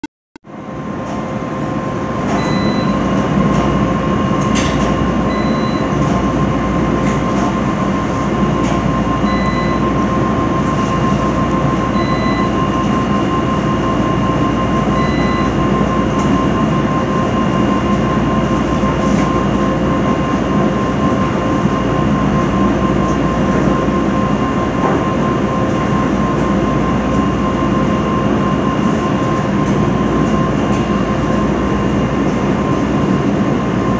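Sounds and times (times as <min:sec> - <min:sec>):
constant whine: 0:00.5 - 0:33.9.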